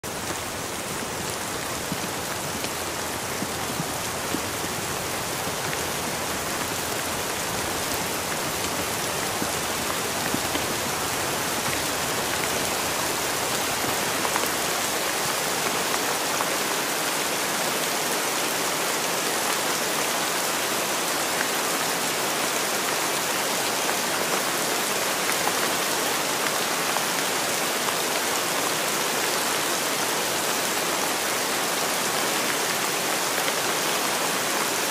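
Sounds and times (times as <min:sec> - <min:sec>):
steady rain hiss: 0:00.0 - 0:34.9.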